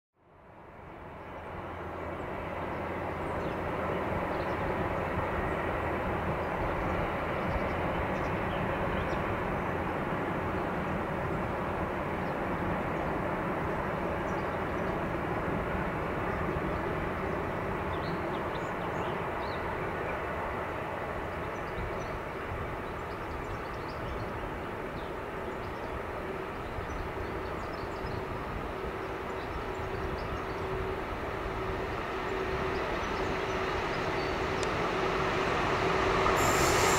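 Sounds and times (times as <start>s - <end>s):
freight train wheels rumbling: 0.4s - 36.9s.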